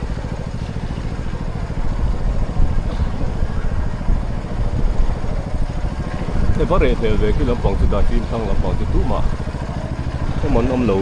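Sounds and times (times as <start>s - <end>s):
engine running with low pulsing: 0.0s - 11.0s.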